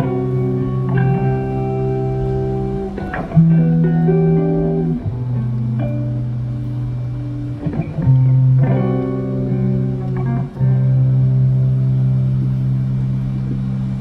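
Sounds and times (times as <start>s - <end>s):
live band guitars and bass: 0.0s - 14.0s.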